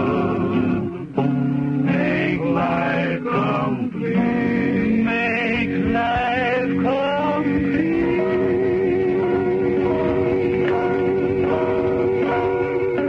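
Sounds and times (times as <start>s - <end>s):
men singing in harmony: 0.0s - 1.2s, 1.8s - 13.0s
acoustic guitar: 0.0s - 13.0s.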